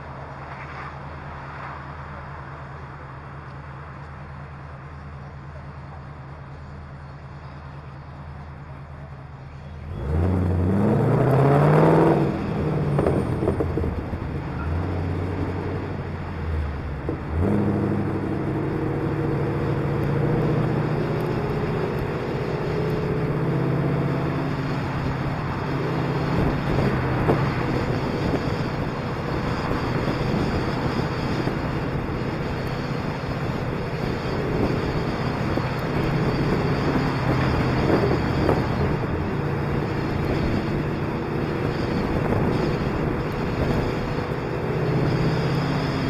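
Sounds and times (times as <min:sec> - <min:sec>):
road and wind noise: 0:00.0 - 0:46.0
car engine accelerating: 0:03.4 - 0:46.0.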